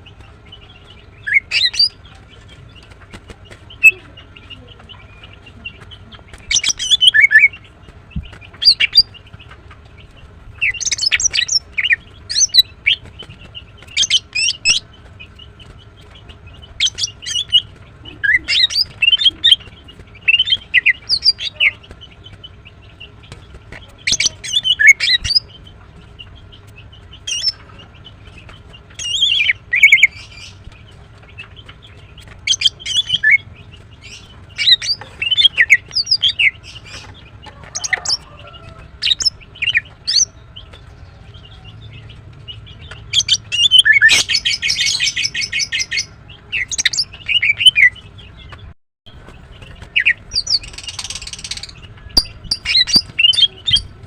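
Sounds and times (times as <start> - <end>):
bird chirps and trills: 0.0 - 54.0.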